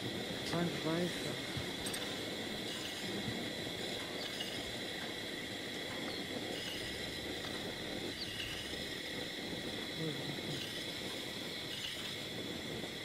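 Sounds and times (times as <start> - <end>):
insect chorus: 0.0 - 13.0
open air hiss: 0.0 - 13.0.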